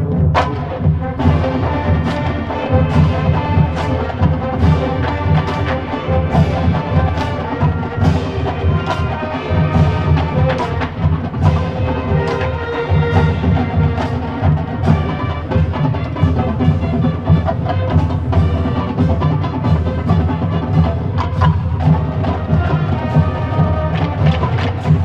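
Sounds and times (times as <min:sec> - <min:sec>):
marching band chords: 0:00.0 - 0:25.0.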